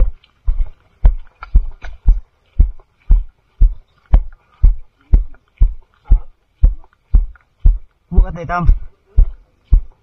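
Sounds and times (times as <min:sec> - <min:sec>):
walking footsteps: 0:00.0 - 0:10.0.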